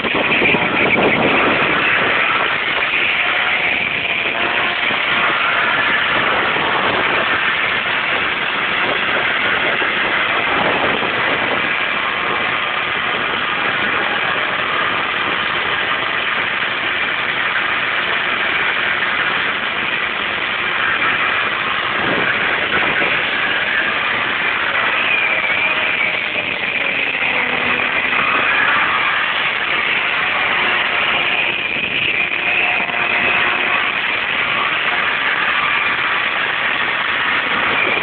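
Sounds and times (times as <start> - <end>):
car engine revving in burnout: 0.0 - 38.0.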